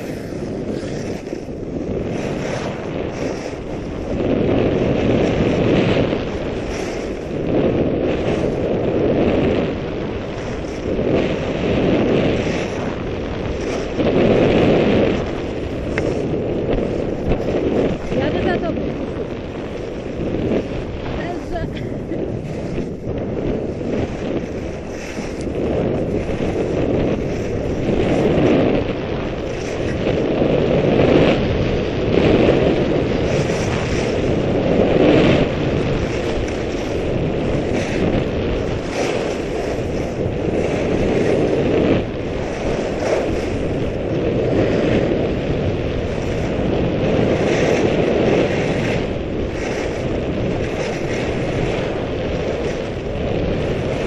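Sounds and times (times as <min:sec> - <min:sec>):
skis scraping on snow: 0:00.0 - 0:54.0
wind rushing over microphone: 0:00.0 - 0:54.0.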